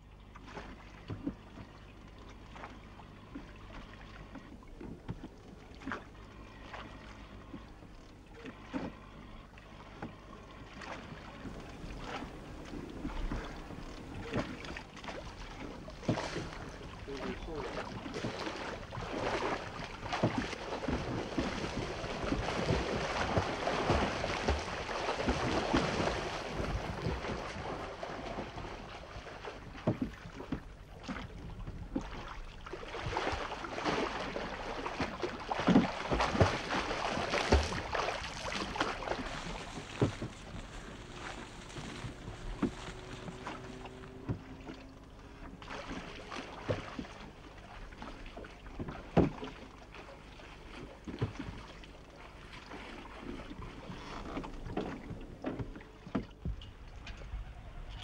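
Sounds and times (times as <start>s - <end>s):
water sloshing and lapping: 0.0s - 58.0s.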